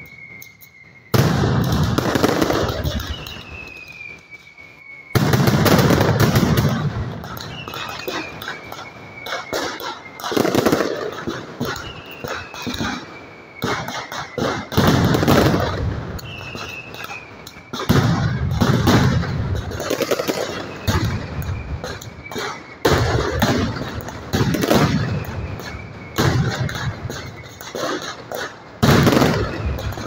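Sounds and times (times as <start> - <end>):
firecrackers banging: 0.0 - 30.0
high falling whistle: 0.0 - 30.0.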